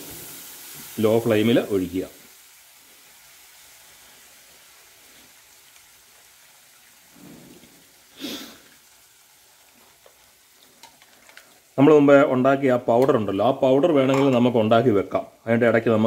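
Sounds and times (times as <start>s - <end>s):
liquid sizzling in oil: 0.0s - 16.0s.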